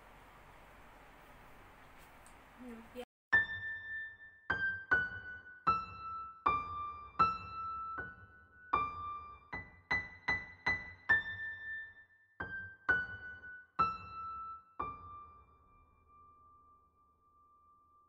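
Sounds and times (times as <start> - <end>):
slow piano melody: 3.3 - 18.0.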